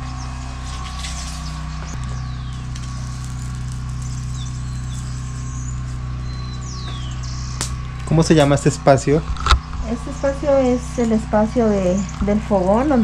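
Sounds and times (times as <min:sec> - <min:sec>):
birds chirping: 0:00.0 - 0:13.0
low drone: 0:00.0 - 0:13.0.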